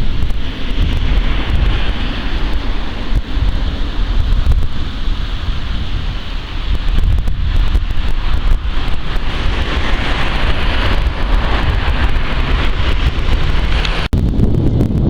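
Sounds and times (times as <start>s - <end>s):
rushing hiss: 0.0s - 14.1s
wind buffeting microphone: 0.0s - 15.0s.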